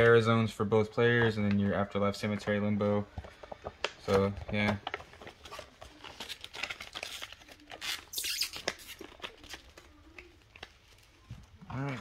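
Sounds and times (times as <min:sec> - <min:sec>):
packaging rustling and crinkling: 0:01.0 - 0:12.0.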